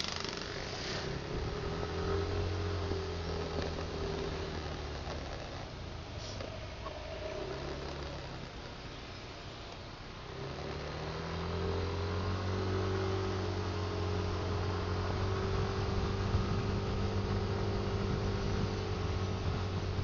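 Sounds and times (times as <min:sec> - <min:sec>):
vehicle engine accelerating: 0:00.0 - 0:20.0.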